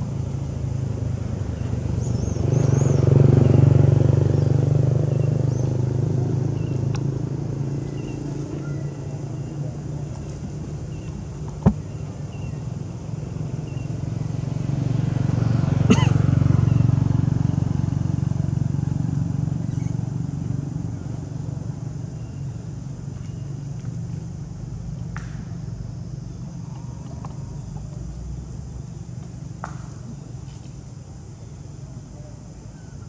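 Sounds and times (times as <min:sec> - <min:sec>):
vehicle engine rumble passing: 0:00.0 - 0:33.0.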